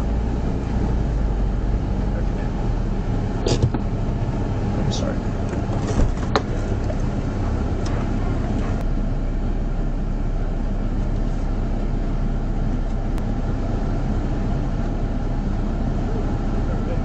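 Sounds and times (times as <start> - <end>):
vehicle engine low rumble: 0.0 - 17.0.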